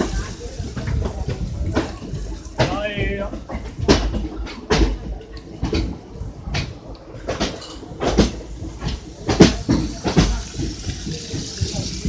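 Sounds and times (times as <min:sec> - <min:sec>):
train rumbling: 0:00.0 - 0:12.0
wheels clacking over rail joints: 0:00.0 - 0:12.0.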